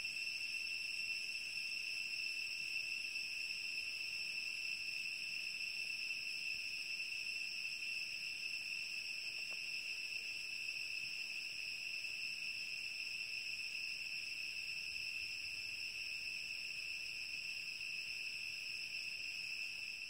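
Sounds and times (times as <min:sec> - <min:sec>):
cicadas droning: 0:00.0 - 0:20.0.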